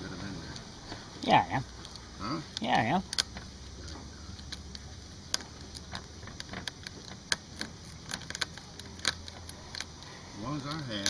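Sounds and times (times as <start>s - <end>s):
low steady hum: 0.0s - 11.0s
small tools clicking and tapping: 1.7s - 11.0s.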